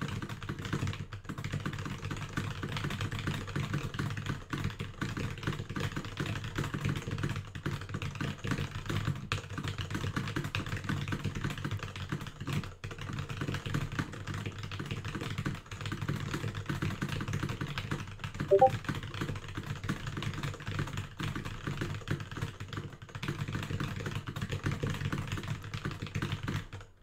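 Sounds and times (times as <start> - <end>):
fast keyboard typing: 0.0 - 26.9.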